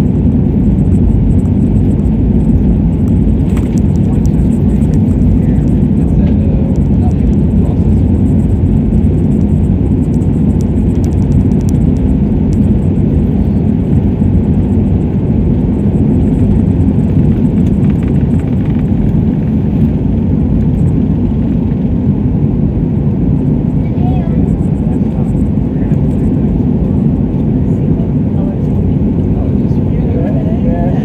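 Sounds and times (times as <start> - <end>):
airliner engines rumbling in cabin: 0.0 - 31.0.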